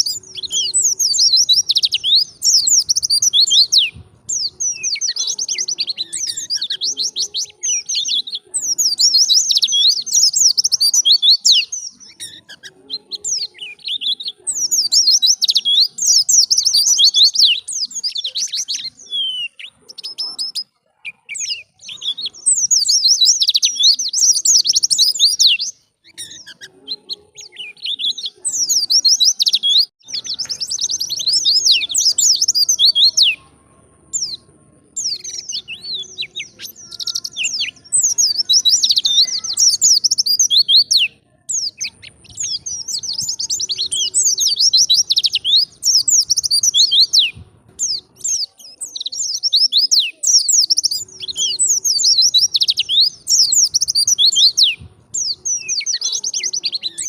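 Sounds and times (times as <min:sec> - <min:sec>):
bird twittering song: 0:00.0 - 0:57.0.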